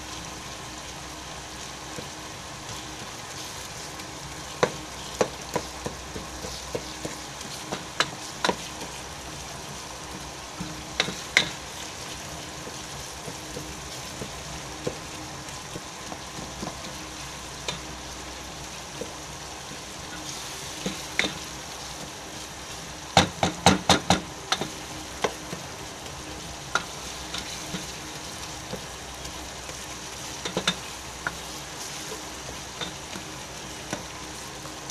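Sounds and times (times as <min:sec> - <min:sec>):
onions sizzling in oil: 0:00.0 - 0:34.9.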